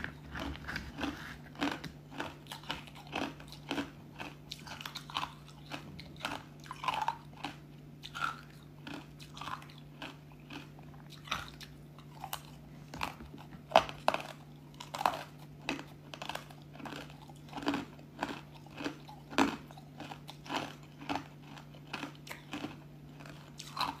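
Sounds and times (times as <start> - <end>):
faint low hum: 0.0 - 24.0
ice crunching between teeth: 0.0 - 24.0.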